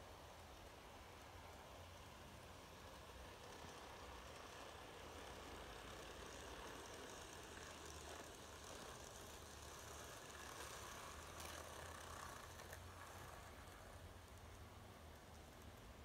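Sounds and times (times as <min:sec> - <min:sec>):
model train wheels rattling on rail: 0:00.0 - 0:16.0.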